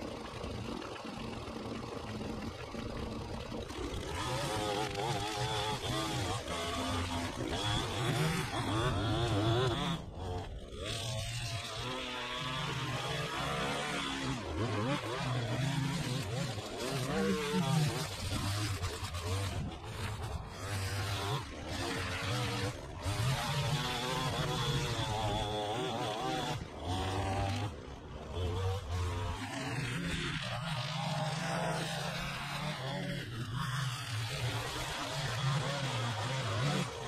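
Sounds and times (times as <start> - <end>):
string trimmer engine revving: 0.0 - 37.0.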